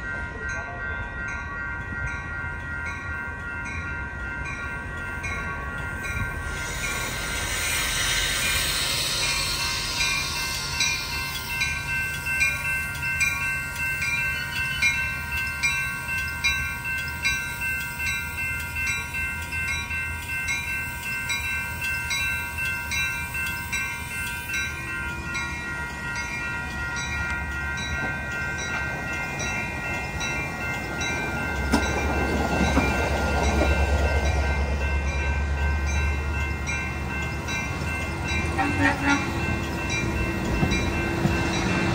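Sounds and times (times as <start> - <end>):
crossing warning bells ringing: 0.0 - 41.9
low rumble of train: 0.0 - 41.9.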